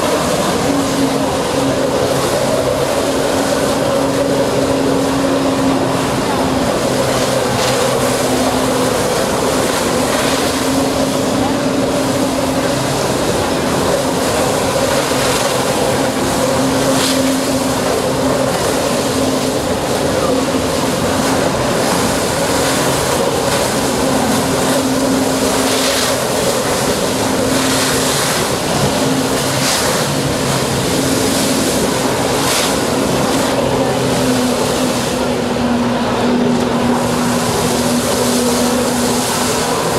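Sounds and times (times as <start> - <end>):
jet ski engine running hard: 0.0 - 39.9
water spray rushing: 0.0 - 39.9.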